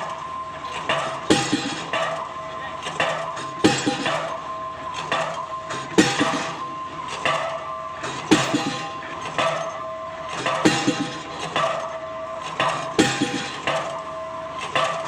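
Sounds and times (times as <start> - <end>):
pile-driving hammer blows: 0.0 - 15.0.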